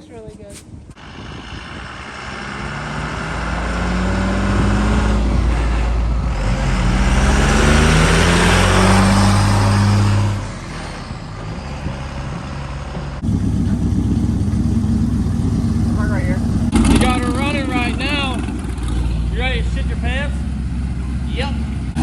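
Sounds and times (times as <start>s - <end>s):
vehicle engine accelerating hard: 1.0s - 22.0s.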